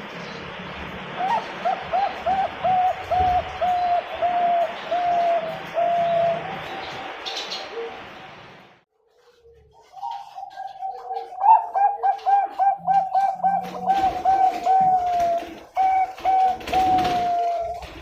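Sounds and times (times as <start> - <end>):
dove cooing: 1.2 - 8.0, 9.4 - 18.0.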